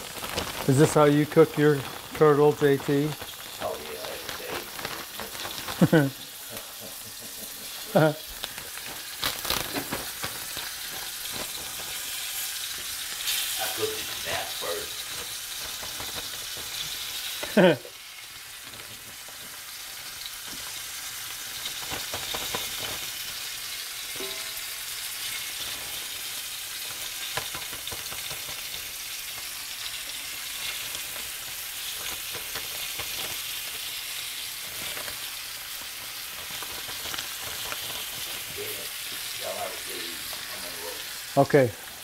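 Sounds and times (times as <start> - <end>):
meat sizzling in hot oil: 0.0 - 42.0.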